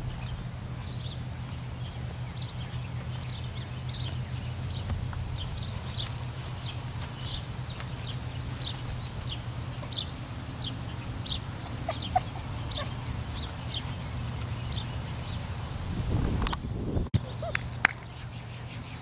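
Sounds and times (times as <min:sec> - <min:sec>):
bird chirping: 0:00.0 - 0:15.8
steady low hum: 0:00.0 - 0:19.0.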